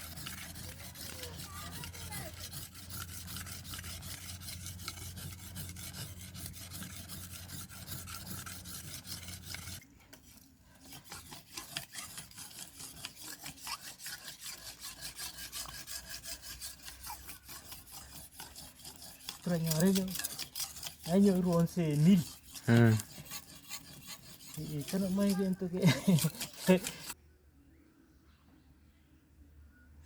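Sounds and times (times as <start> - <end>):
machete scraping on sharpening stone: 0.0 - 27.2.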